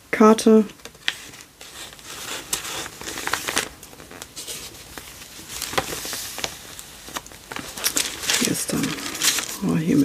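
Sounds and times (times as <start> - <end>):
pages turning: 0.8 - 10.0
paper rustling and crinkling: 0.8 - 10.0.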